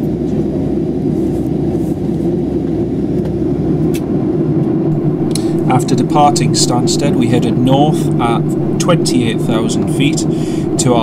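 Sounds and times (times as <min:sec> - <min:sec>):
airplane cabin engine noise: 0:00.0 - 0:11.0.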